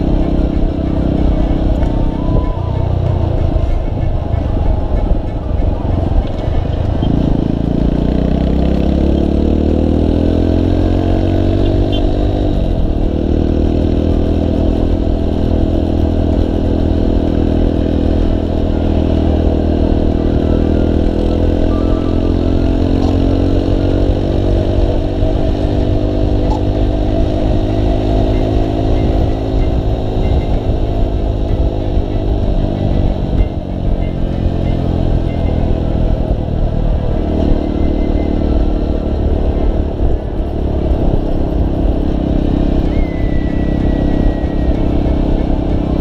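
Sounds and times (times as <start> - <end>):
low wind rumble: 0.0 - 46.0
small motorcycle engine: 0.0 - 46.0.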